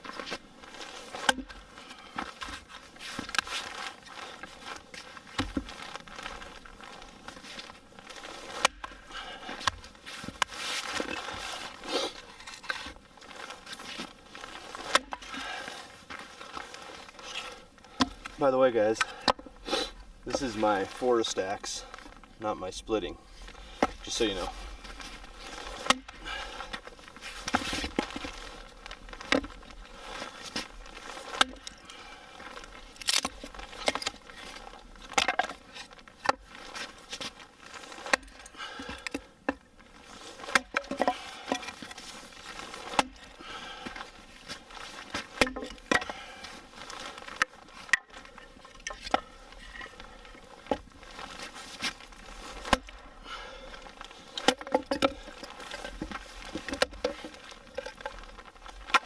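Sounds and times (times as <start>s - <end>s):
steady crackling patter: 0.0s - 59.0s
wood cracking and snapping: 0.0s - 59.0s.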